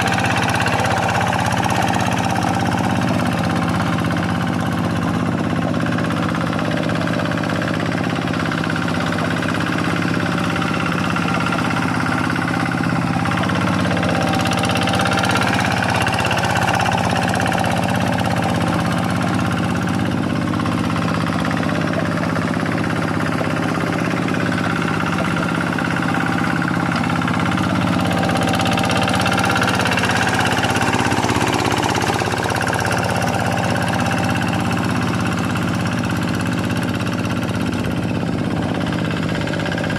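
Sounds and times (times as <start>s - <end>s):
hand tractor diesel engine running: 0.0s - 39.9s.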